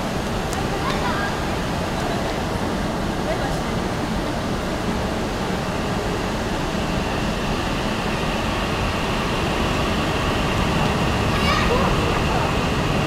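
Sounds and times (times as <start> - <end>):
train rushing hum: 0.0 - 13.0.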